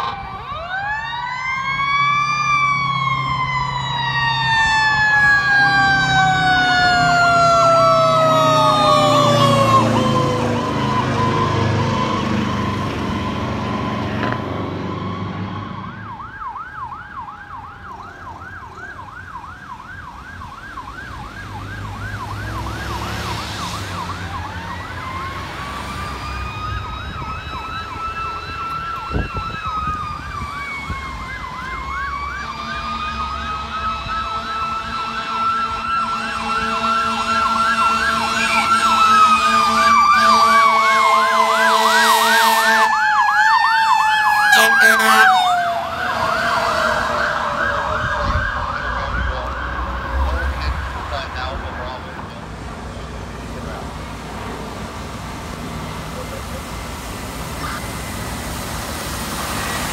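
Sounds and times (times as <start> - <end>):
electronic siren warbling: 0.0 - 53.2
truck engine rumbling: 0.0 - 59.9.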